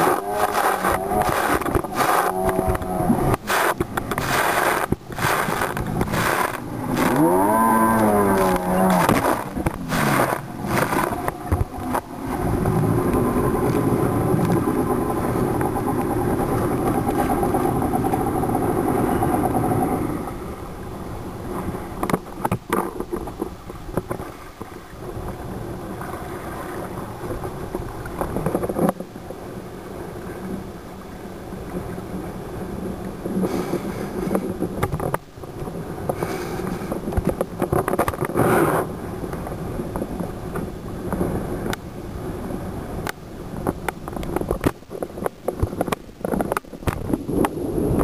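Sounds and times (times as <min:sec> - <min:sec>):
hull slapping water: 0:00.0 - 0:20.5, 0:21.4 - 0:48.0
jet ski engine running: 0:00.0 - 0:48.0
water rushing along hull: 0:00.0 - 0:48.0.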